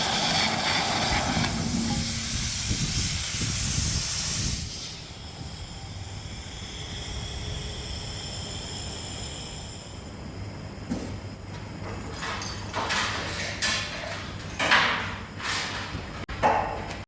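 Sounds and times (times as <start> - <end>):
arc air gouging hiss on steel: 0.0 - 16.3.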